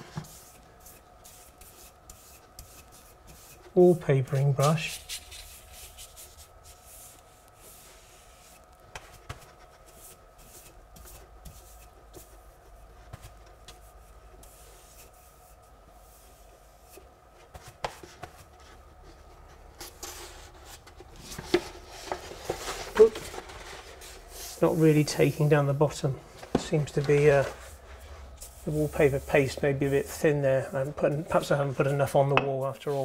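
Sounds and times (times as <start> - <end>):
brush bristles swishing over paper: 0.2 - 8.7, 9.4 - 17.8, 22.5 - 33.0.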